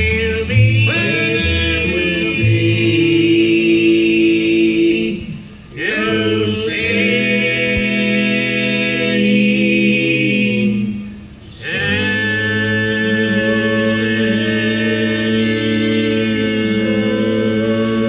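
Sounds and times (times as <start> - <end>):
men singing a cappella harmony: 0.0 - 18.0.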